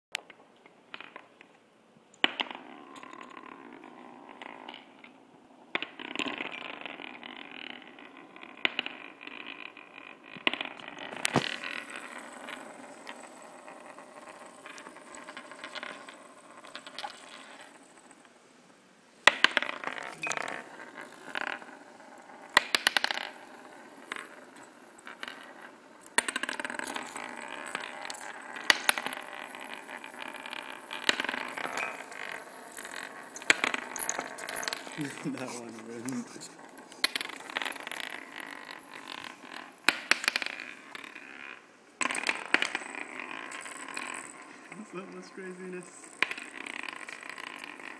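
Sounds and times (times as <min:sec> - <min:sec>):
spinning tops whirring on wood: 0:02.2 - 0:18.4, 0:19.2 - 0:47.9.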